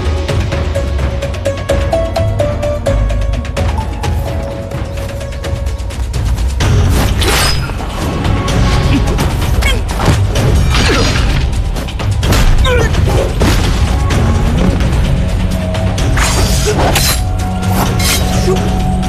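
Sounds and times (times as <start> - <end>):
dramatic action music with drums: 0.0 - 19.0.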